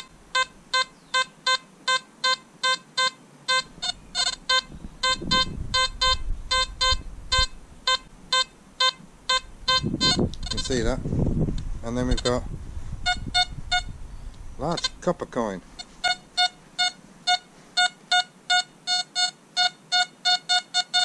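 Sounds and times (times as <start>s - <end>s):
metal detector short beeps: 0.0s - 10.7s, 13.1s - 13.9s, 14.7s - 15.0s, 15.8s - 21.0s.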